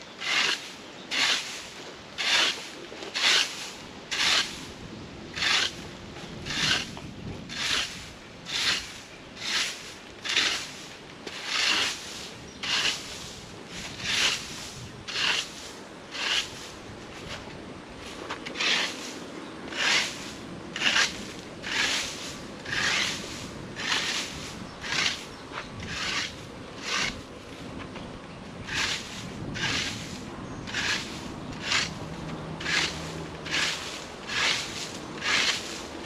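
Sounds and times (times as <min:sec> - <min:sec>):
broom sweeping leaves: 0:00.0 - 0:36.0.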